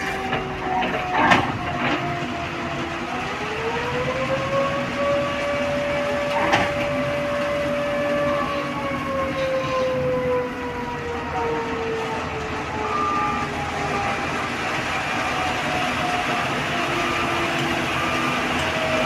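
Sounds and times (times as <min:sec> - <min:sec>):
hydraulic pump whining: 0:00.0 - 0:19.0.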